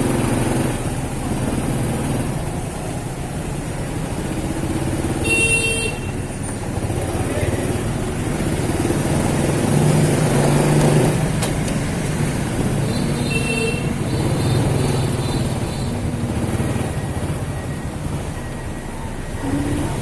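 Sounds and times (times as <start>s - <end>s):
motorcycle engine: 0.0s - 20.0s
road and wind noise: 0.0s - 20.0s.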